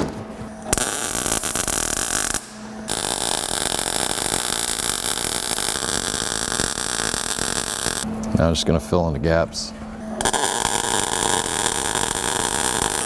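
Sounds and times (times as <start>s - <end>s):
welding arc crackling: 0.0s - 8.2s, 10.2s - 13.0s.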